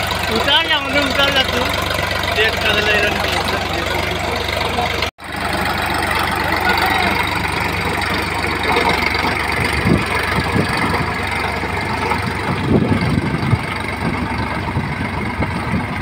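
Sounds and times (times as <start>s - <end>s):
rotavator churning dry soil: 0.0s - 16.0s
tractor diesel engine under load: 0.0s - 16.0s.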